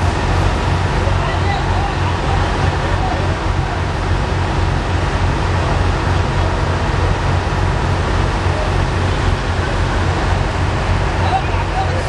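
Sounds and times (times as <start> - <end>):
broad rush of noise: 0.0 - 12.0
heavy engine droning: 0.0 - 12.0.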